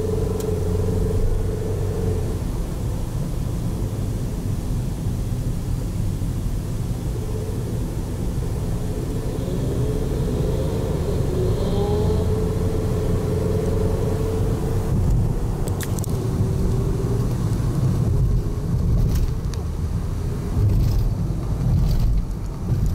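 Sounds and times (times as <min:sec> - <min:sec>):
car driving at highway speed: 0:00.0 - 0:22.9.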